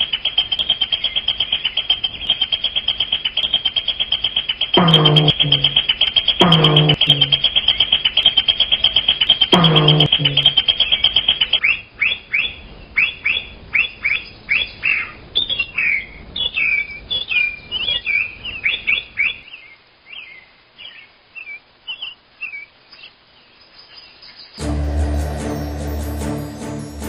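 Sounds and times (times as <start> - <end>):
small birds chirping: 0.0 - 24.6.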